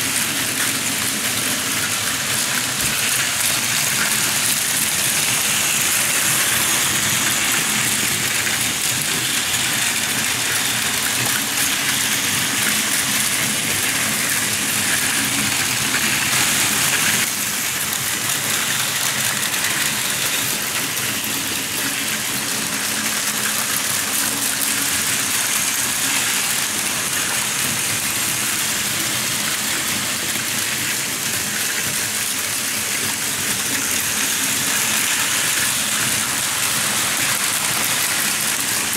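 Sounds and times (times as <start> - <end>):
toy train motors whirring: 0.0 - 38.9
wheels rattling over track joints: 0.0 - 38.9.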